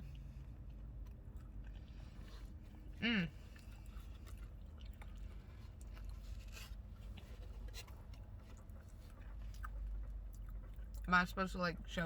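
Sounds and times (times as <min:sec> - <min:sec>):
chewing and mouth sounds: 0:00.0 - 0:12.0.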